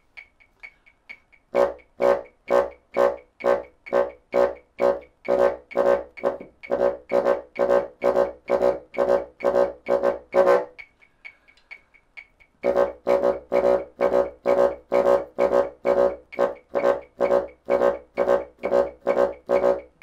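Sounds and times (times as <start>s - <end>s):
bassoon short tongued notes: 1.4s - 11.1s, 12.5s - 20.0s.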